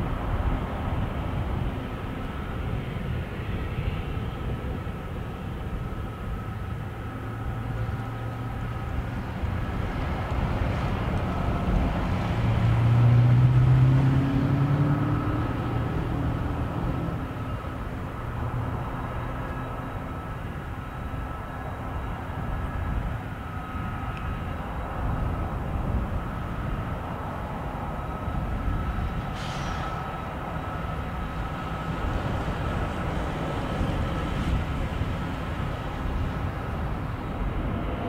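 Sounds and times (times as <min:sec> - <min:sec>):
jet engine whine: 0:00.0 - 0:38.0.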